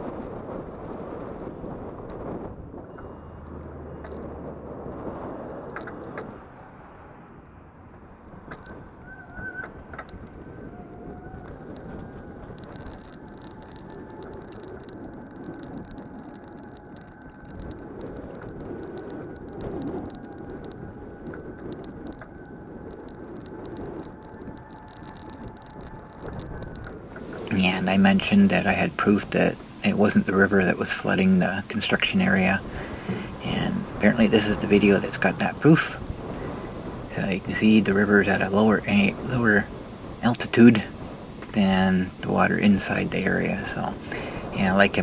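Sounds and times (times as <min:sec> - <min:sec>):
wind noise on microphone: 0:00.0 - 0:45.0.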